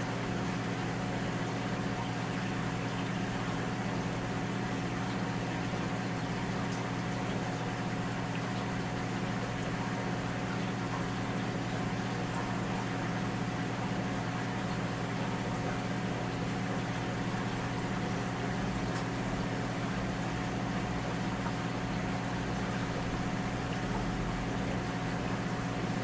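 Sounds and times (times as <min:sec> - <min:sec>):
aquarium pump humming: 0:00.0 - 0:26.0.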